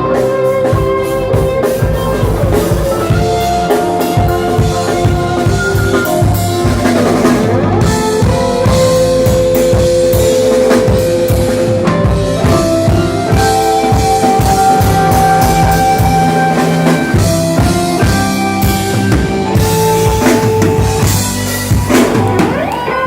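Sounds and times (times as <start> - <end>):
drum kit steady beat: 0.0 - 23.0
rock band playing live: 0.0 - 23.0.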